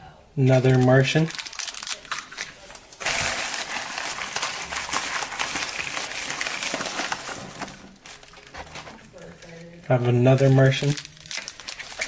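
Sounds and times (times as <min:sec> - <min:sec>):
plastic packaging crinkling: 0:00.6 - 0:12.0.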